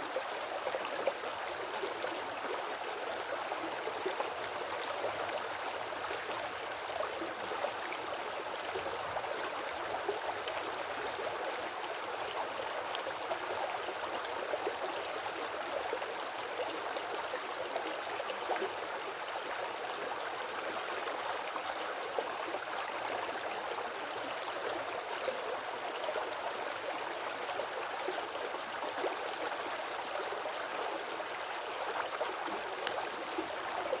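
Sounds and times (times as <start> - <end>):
creek babbling over rocks: 0.0 - 34.0.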